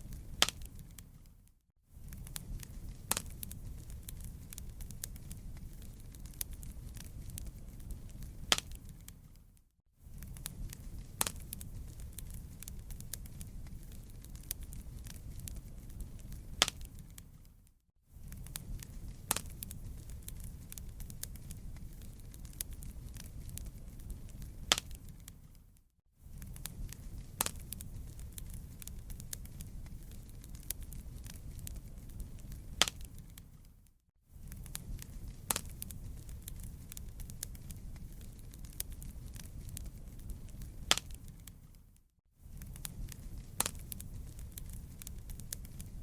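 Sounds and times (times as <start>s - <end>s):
low rumble of burning: 0.0s - 46.0s
wood fire crackling: 0.0s - 46.0s
sharp pops and snaps: 0.1s - 9.6s, 10.2s - 17.5s, 18.2s - 46.0s.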